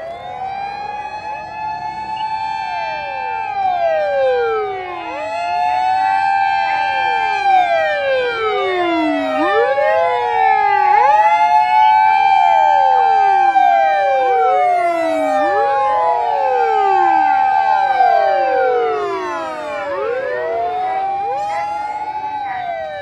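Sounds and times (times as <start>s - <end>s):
electronic sirens wailing: 0.0s - 23.0s.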